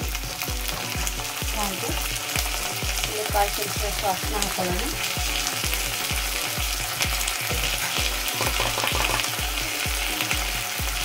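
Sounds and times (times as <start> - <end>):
background music with low beat: 0.0 - 11.0
onions sizzling in hot oil: 0.0 - 11.0.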